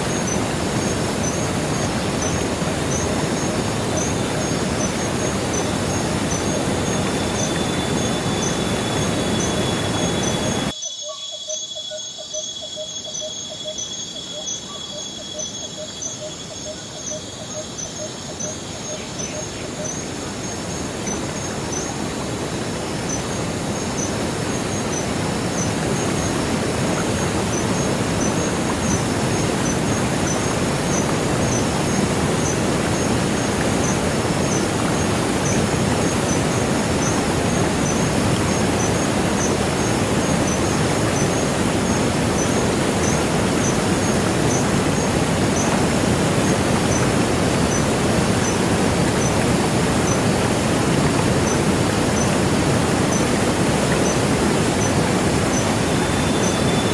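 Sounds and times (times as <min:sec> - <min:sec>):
waterfall roaring: 0:00.0 - 0:10.7, 0:20.0 - 0:56.9
faint high insect chirp: 0:00.0 - 0:50.4, 0:54.0 - 0:56.9.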